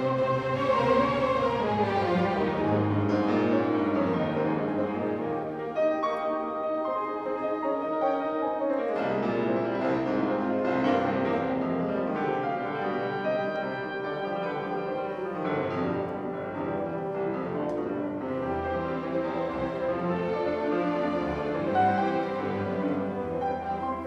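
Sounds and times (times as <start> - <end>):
instrumental piano music: 2.3 - 24.0.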